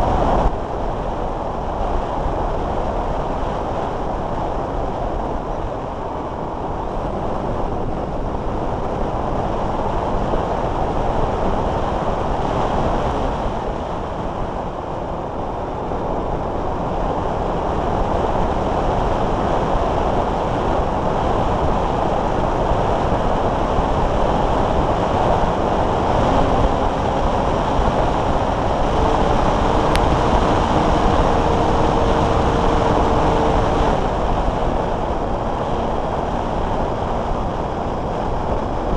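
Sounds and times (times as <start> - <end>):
wind roar over camera: 0.0 - 38.9.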